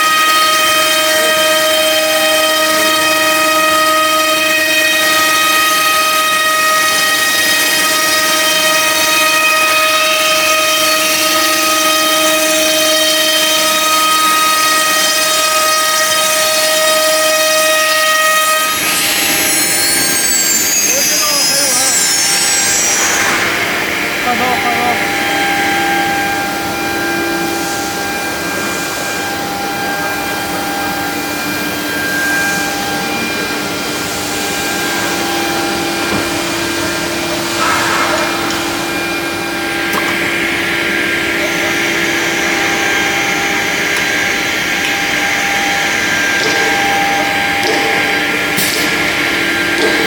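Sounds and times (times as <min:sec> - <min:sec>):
cnc router machine whine: 0:00.0 - 0:50.0.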